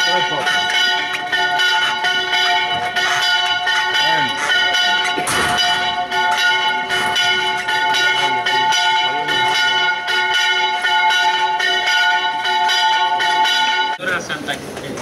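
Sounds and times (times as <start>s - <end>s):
church bells ringing a peal: 0.0s - 14.1s.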